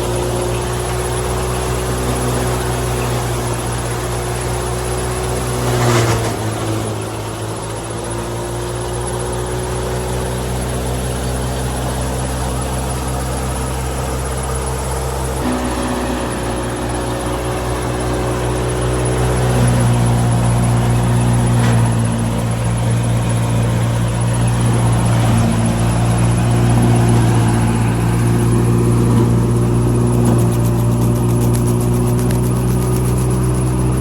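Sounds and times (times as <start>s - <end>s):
combine harvester droning: 0.0s - 34.0s.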